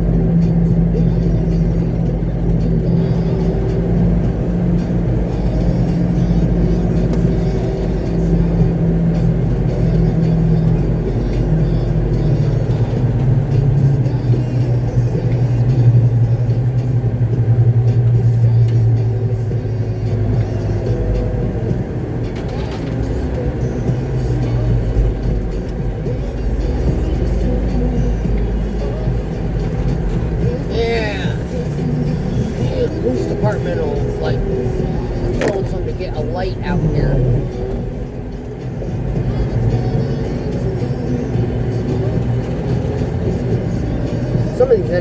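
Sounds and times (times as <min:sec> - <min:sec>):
music playing: 0:00.0 - 0:45.0
truck engine droning: 0:00.0 - 0:45.0.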